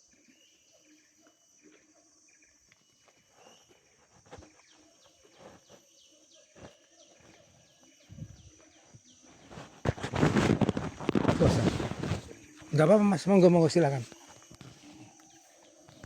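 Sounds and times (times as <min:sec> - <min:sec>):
bird chirping: 0:00.0 - 0:16.0
high insect hum: 0:00.0 - 0:16.0.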